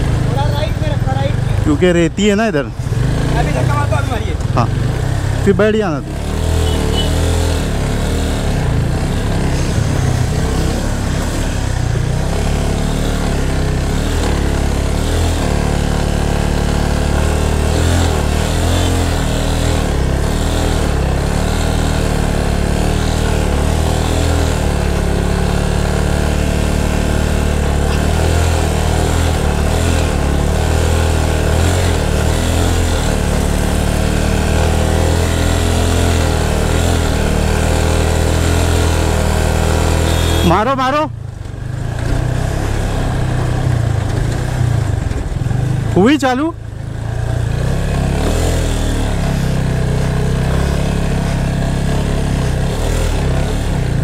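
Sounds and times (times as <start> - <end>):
motorcycle engine running under load: 0.0 - 54.0.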